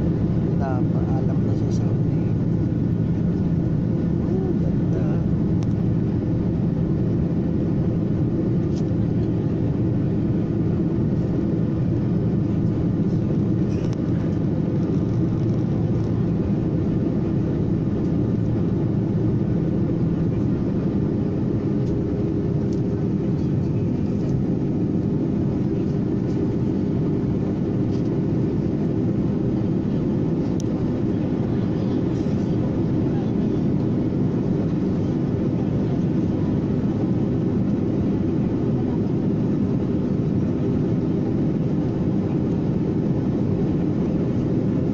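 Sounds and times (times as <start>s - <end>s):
airliner cabin engine rush: 0.0s - 44.9s.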